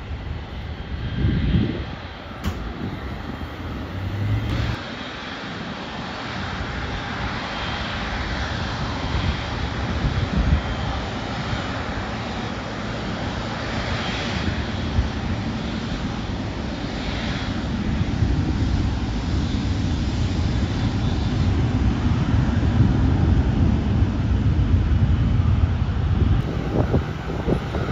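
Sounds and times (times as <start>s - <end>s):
jet engines rushing: 0.0s - 27.9s.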